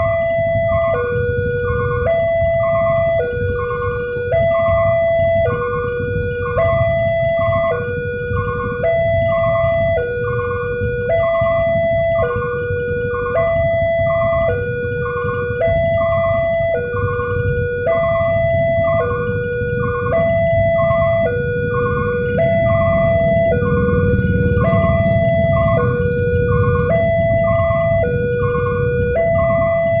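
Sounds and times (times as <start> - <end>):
level crossing two-tone alarm: 0.0 - 30.0
low rumble: 0.0 - 30.0.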